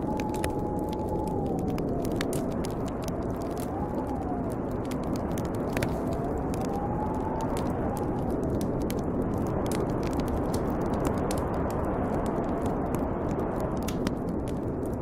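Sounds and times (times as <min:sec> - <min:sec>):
bonfire crackling: 0:00.0 - 0:15.0
whistling wind: 0:00.0 - 0:15.0
wind blowing: 0:00.0 - 0:15.0.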